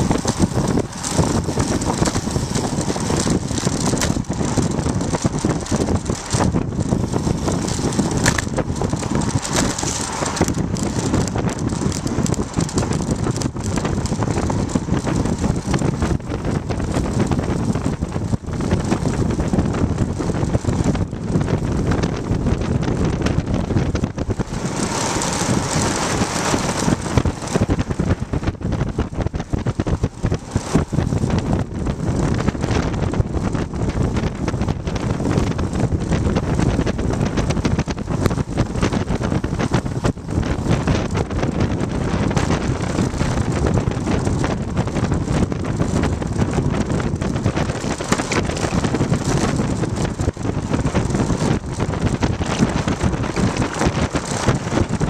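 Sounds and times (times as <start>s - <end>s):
low road rumble: 0.0s - 55.0s
wind buffeting microphone: 0.0s - 55.0s.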